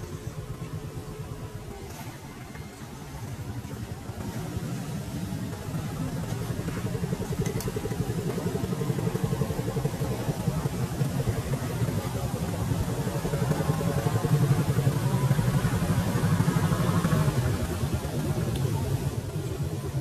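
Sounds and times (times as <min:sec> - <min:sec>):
motor droning with pulsing flutter: 0:00.0 - 0:20.0.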